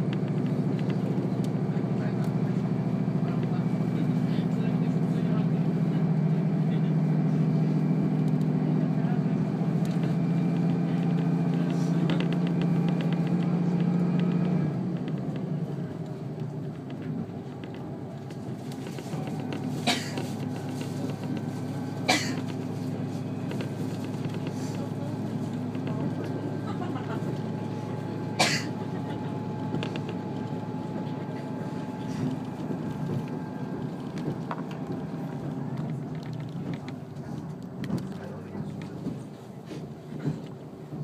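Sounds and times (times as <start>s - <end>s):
diesel engine drone: 0.0s - 41.0s
wheel and rail noise: 0.0s - 41.0s.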